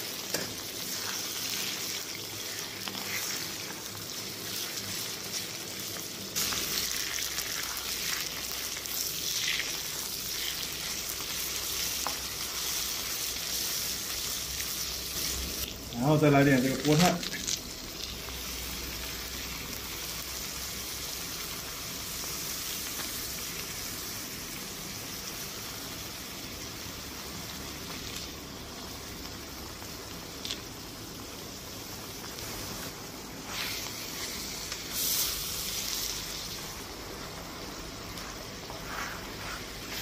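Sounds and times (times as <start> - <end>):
meat and spinach sizzling: 0.0 - 40.0.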